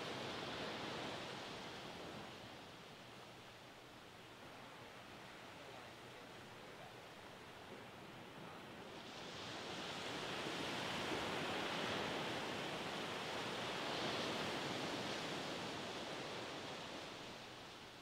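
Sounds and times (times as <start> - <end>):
surf washing up a beach: 0.0 - 18.0.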